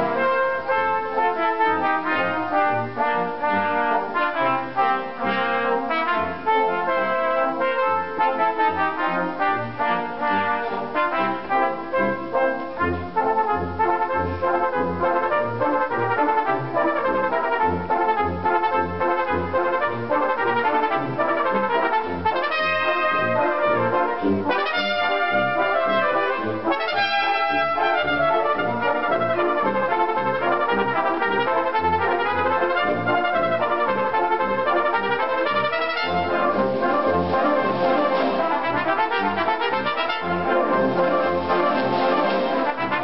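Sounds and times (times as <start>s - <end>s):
brass band accompaniment: 0.0s - 43.0s
cornet duet: 0.0s - 43.0s
low brass bass notes: 0.0s - 43.0s.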